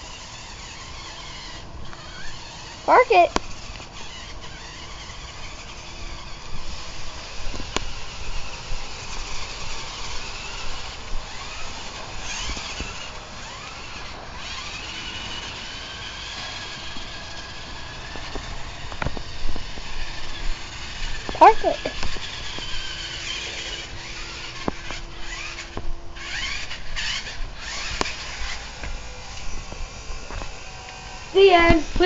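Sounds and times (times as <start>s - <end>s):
toy truck electric motor whining: 0.0s - 32.0s.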